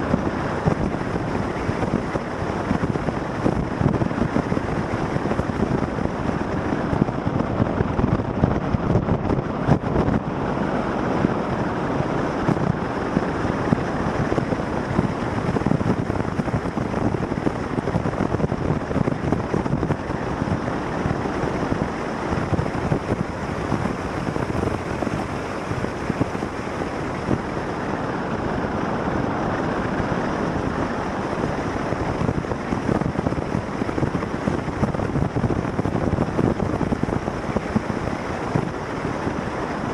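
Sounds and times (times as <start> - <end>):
vehicle road and engine noise: 0.0 - 39.9
wind on microphone: 0.0 - 39.9.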